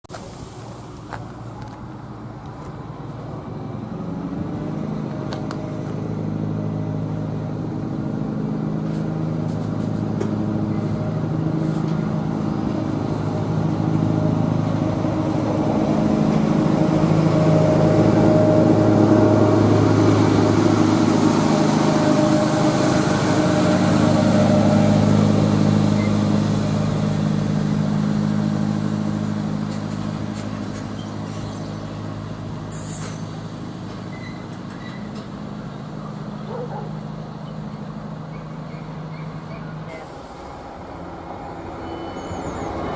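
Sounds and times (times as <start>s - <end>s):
wheels hissing on rail: 0.1s - 2.3s, 8.8s - 35.6s, 36.9s - 42.9s
diesel locomotive engine passing: 0.1s - 42.9s.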